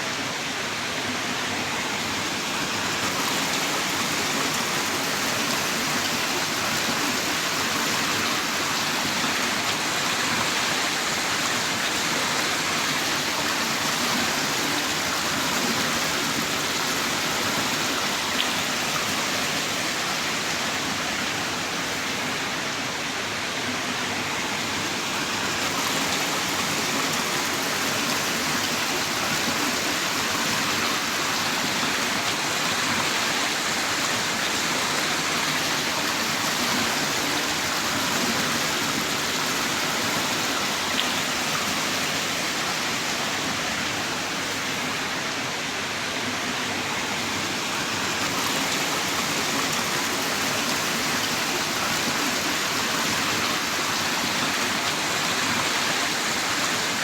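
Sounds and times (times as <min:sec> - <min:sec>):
heavy rain pouring: 0:00.1 - 0:57.0.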